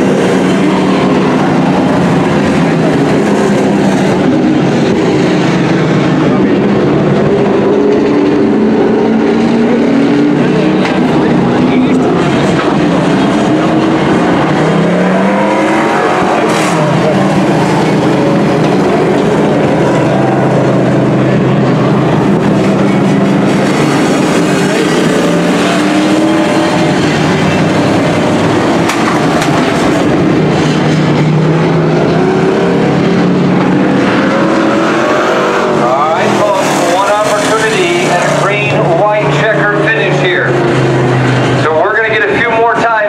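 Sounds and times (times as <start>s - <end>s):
race truck engines passing: 0.0s - 43.0s.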